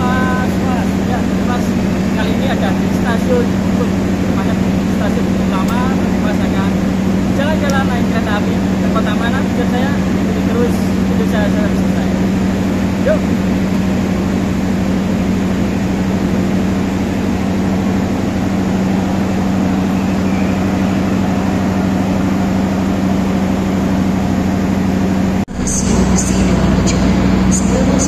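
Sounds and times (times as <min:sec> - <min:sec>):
diesel train idling: 0:00.0 - 0:28.0.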